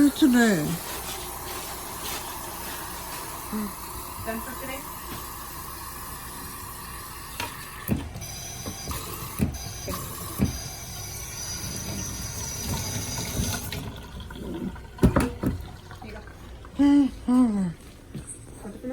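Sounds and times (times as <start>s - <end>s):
water running: 0.0s - 18.9s.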